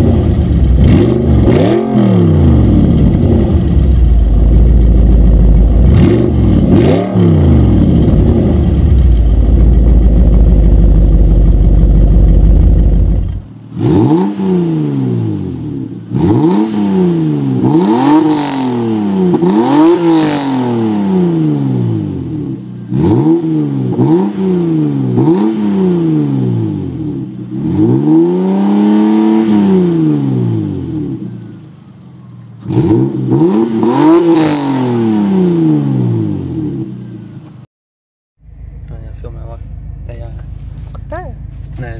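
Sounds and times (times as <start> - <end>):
car engine revving: 0.0 - 37.5
car exhaust deep rumble: 0.0 - 37.6, 38.4 - 41.9.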